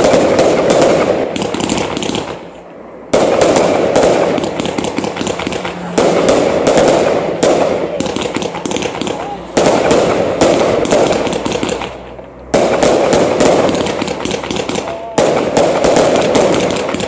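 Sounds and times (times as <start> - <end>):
firework crackles: 0.0 - 17.0
firework shots: 0.0 - 17.0.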